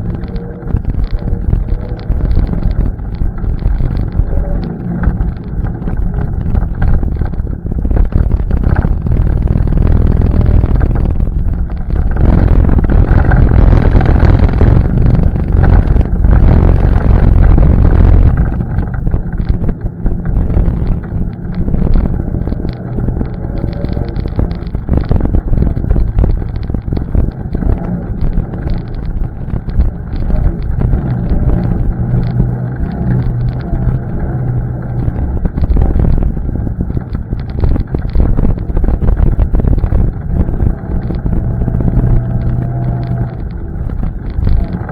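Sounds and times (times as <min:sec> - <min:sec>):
atv engine running: 0:00.0 - 0:44.9
wind buffeting microphone: 0:00.0 - 0:44.9.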